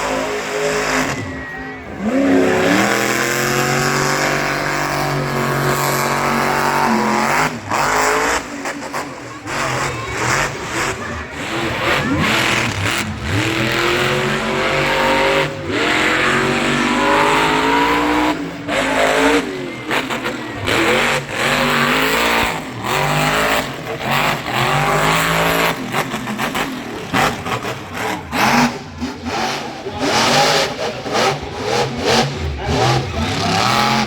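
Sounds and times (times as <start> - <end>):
monster truck engine revving: 0.0 - 34.0.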